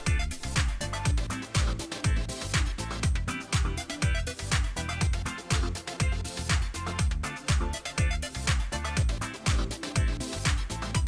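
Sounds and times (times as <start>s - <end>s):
electronic dance music: 0.0s - 11.0s
kick-drum beat: 0.0s - 11.0s.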